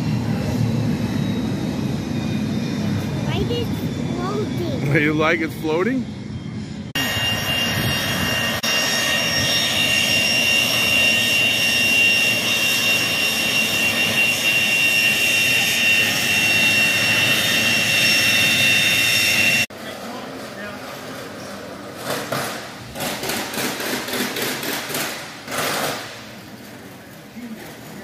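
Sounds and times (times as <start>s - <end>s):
jet engine whine and roar: 0.0s - 28.0s.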